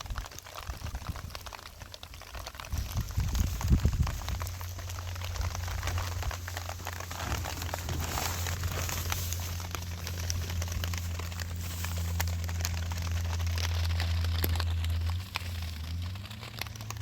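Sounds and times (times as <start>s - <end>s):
crackling and crinkling: 0.0s - 17.0s
steady low hum: 2.7s - 17.0s.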